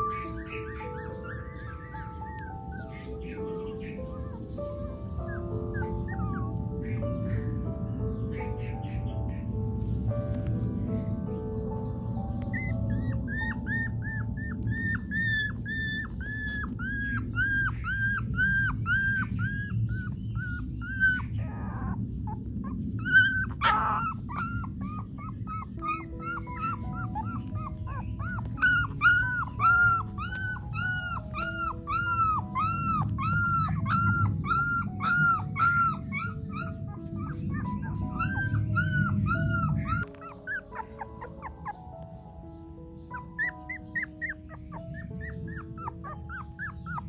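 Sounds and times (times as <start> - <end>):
puppies whimpering: 0.0 - 47.0.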